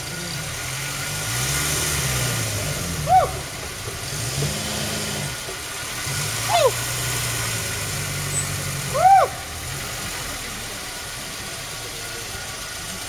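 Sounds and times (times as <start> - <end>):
jeep engine revving: 0.0 - 13.0.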